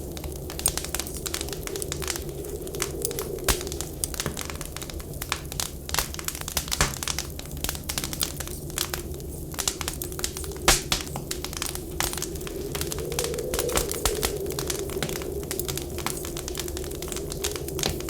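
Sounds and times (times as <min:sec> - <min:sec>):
howling blizzard wind: 0:00.0 - 0:18.0
wood fire crackling: 0:00.0 - 0:18.0.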